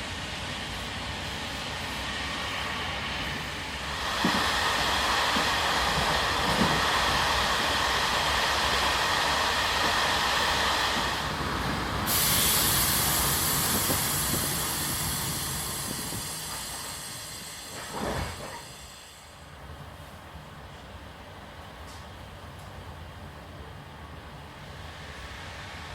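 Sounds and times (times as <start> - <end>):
train rushing on rails: 0.0 - 25.9.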